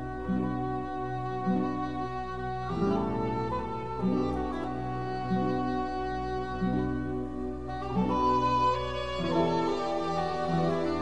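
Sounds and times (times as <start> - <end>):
instrumental music with sustained notes: 0.0 - 11.0.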